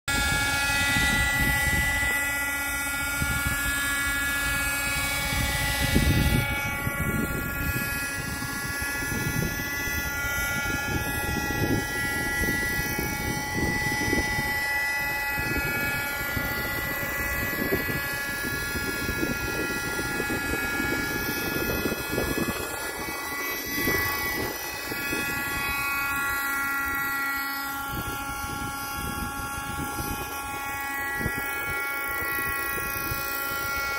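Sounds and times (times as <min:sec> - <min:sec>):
model helicopter rotor whine: 0:00.1 - 0:33.9.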